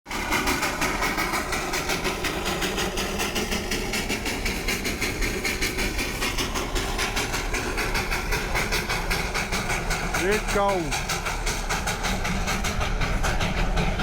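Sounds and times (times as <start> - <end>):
train rhythmic beat: 0.1 - 14.0
train rumble: 0.1 - 14.0.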